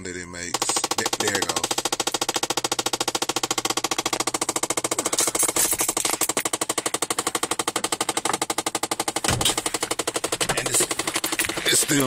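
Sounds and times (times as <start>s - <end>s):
rapid steady clicking in car: 0.5s - 12.0s.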